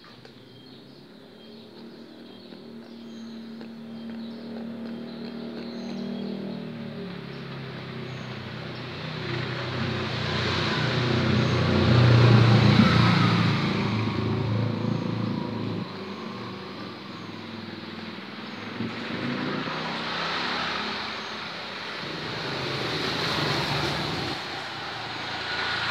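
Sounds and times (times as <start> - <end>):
motor scooter passing: 0.0 - 25.9
motorcycle approaching: 0.0 - 25.9.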